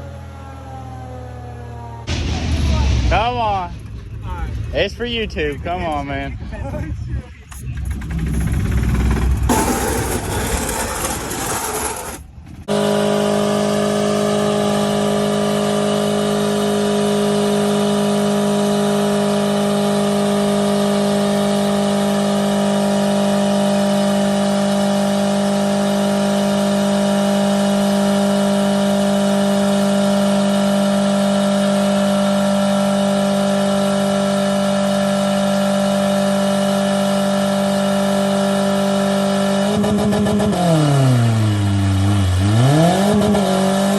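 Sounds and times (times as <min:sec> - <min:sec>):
vehicle engine at high speed: 0:00.0 - 0:43.9.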